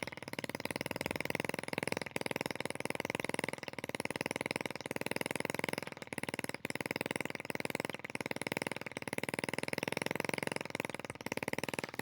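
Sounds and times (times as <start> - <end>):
two-stroke engine running: 0.0 - 12.0.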